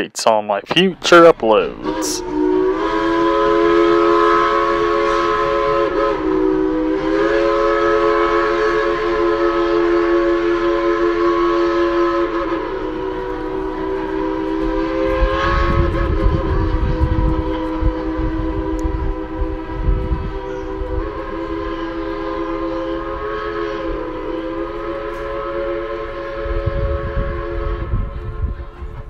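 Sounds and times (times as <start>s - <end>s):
train horn chord: 1.1s - 29.0s.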